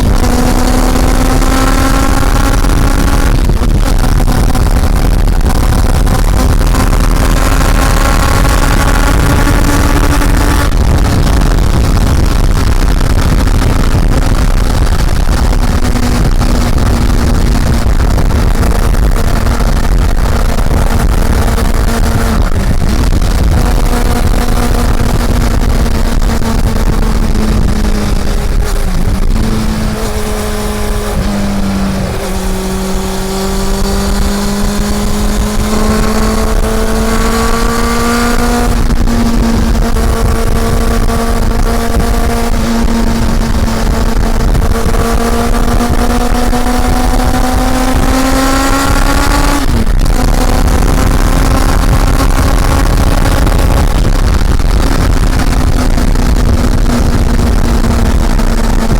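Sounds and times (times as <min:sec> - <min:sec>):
motorcycle engine running: 0:00.0 - 0:58.9
wind rumble on microphone: 0:00.0 - 0:58.9.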